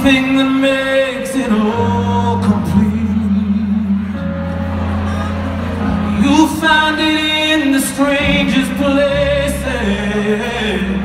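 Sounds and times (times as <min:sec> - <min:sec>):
man singing a slow ballad: 0:00.0 - 0:04.6, 0:06.0 - 0:11.0
band accompaniment: 0:00.0 - 0:11.0.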